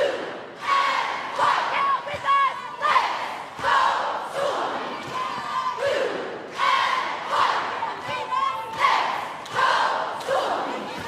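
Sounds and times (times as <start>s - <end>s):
arena crowd noise: 0.0s - 11.0s
cheerleaders shouting a cheer: 0.0s - 11.0s.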